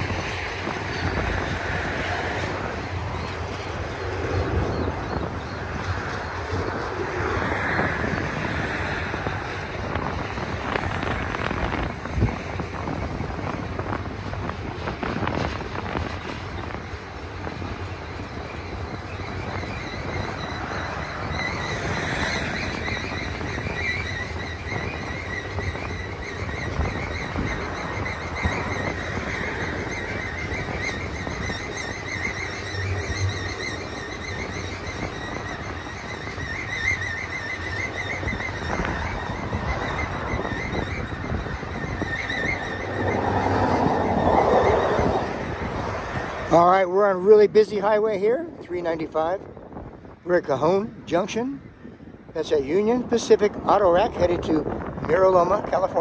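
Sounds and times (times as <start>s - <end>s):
freight train wheels rumbling: 0.0s - 50.2s
wheel flanges squealing on rail: 0.0s - 56.0s.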